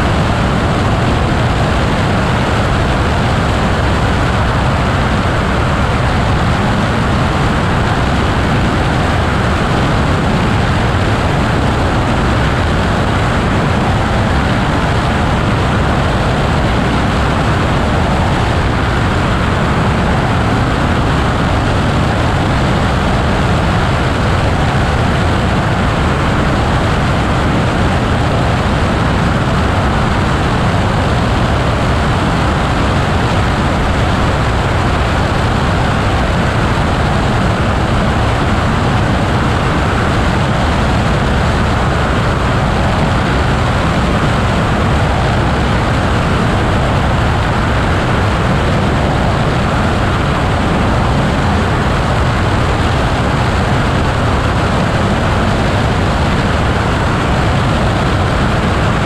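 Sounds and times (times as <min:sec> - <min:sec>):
motorglider in-flight drone: 0:00.0 - 0:59.0.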